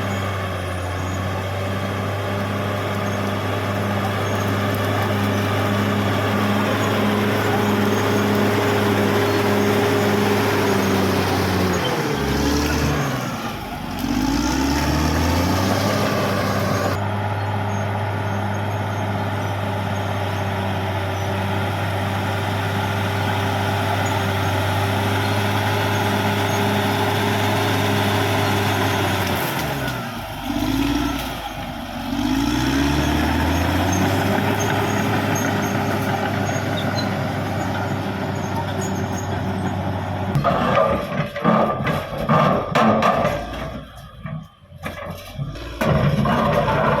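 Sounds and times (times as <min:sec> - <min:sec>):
bulldozer diesel engine revving: 0:00.0 - 0:47.0.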